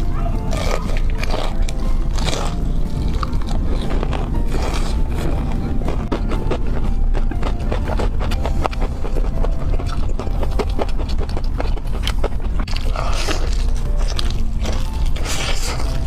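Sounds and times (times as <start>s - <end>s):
crunching bites of fried chicken: 0.4s - 5.0s, 6.1s - 16.0s.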